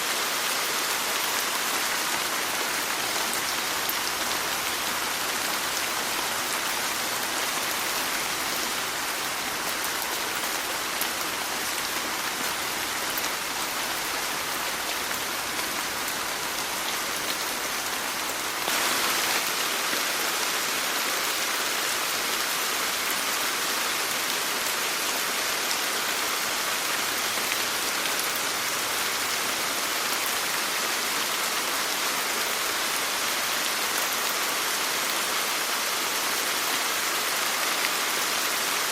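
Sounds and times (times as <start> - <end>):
dense rain hiss: 0.0 - 38.9.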